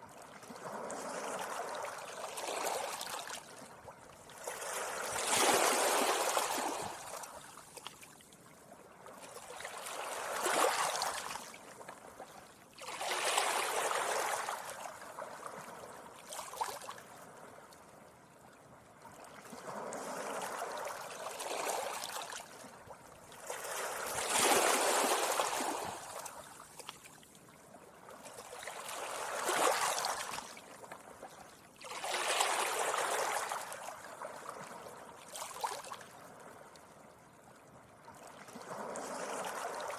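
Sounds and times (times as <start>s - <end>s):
sea waves washing up a beach: 0.4s - 8.1s, 8.9s - 17.6s, 19.3s - 26.8s, 28.0s - 30.8s, 31.8s - 36.7s, 38.2s - 39.9s.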